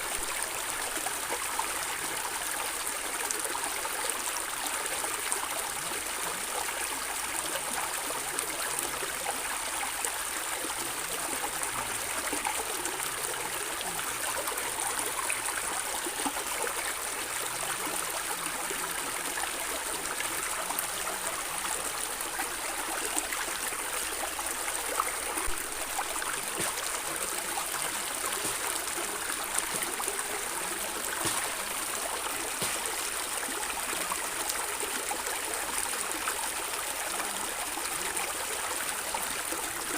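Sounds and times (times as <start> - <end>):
stream running and gurgling: 0.0 - 39.9.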